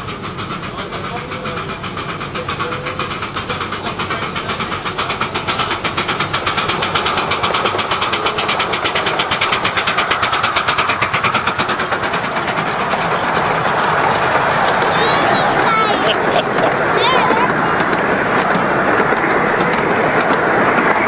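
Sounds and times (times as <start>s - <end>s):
steam locomotive chuffing: 0.0s - 21.0s
train wheels rumbling on rails: 0.0s - 21.0s.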